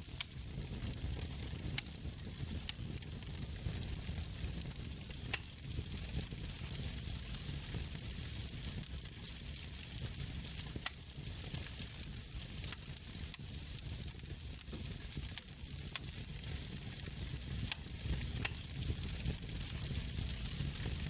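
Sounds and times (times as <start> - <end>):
burning wood popping: 0.0 - 21.0
log fire crackling: 0.0 - 21.0.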